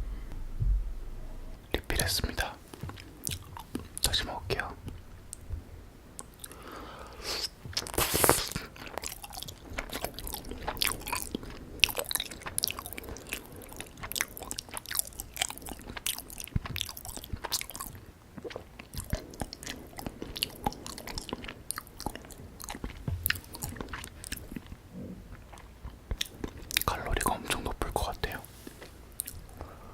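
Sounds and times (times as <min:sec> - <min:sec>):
wet chewing sounds: 0:00.0 - 0:29.8.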